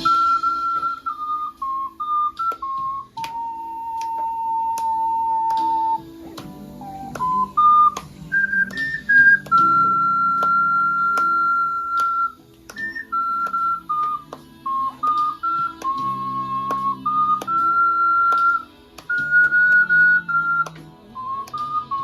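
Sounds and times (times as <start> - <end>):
ocarina playing a slow melody: 0.0 - 22.0
sustained keyboard chords: 0.0 - 22.0.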